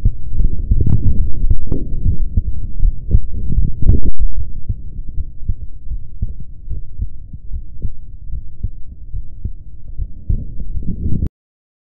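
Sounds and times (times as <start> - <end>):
heartbeat thuds: 0.0 - 11.3
low rumbling background: 0.0 - 11.3.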